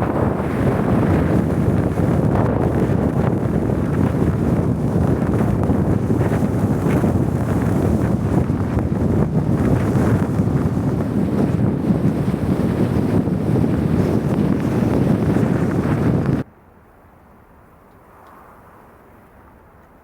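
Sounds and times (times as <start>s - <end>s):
storm wind buffeting microphone: 0.0s - 16.5s.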